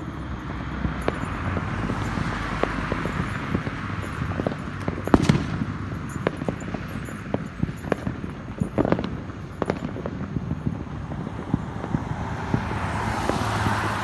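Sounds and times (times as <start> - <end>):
fireworks pops and crackles: 0.0 - 14.0
passing car rushing: 0.0 - 14.0.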